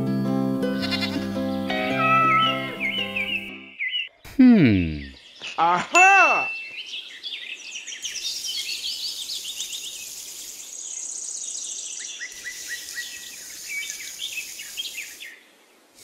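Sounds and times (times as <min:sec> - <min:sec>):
small birds chirping: 0:00.8 - 0:16.0.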